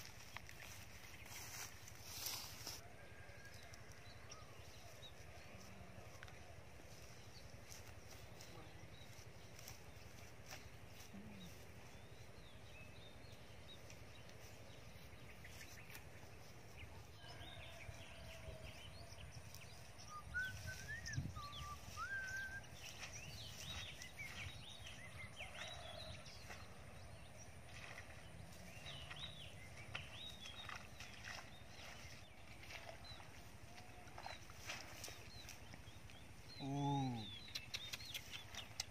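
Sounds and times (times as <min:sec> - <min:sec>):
birds chirping: 0:04.2 - 0:38.9.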